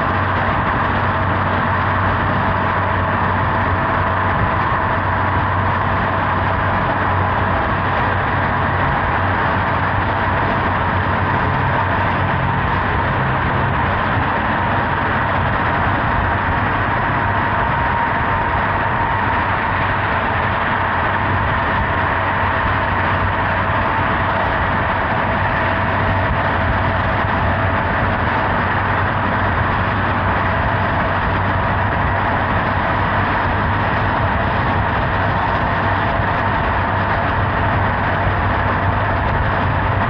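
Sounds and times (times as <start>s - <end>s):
motorcycle engine cruising: 0.0s - 40.0s
wind and road noise: 0.0s - 40.0s.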